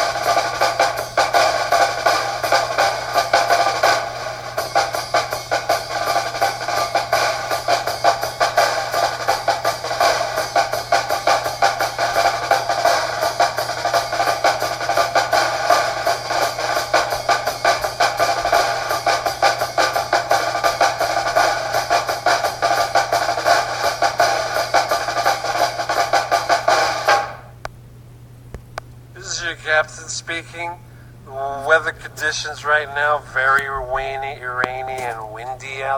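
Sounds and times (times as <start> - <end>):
ringtone music with drum beat: 0.0 - 27.5, 31.6 - 35.9.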